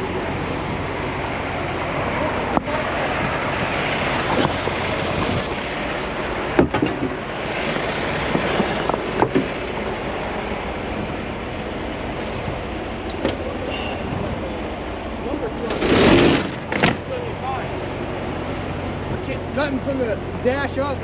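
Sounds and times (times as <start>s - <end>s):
heavy trucks running: 0.0s - 21.0s.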